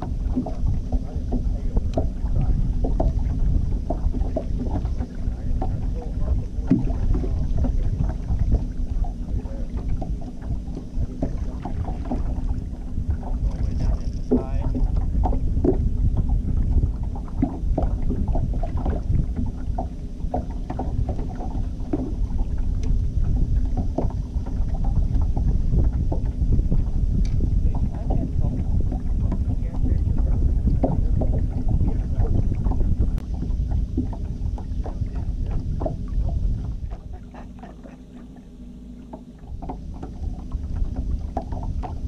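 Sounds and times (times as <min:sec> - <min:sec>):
boat motor humming: 0:00.0 - 0:42.0
water slapping hull: 0:00.0 - 0:42.0
wind on microphone: 0:00.0 - 0:42.0.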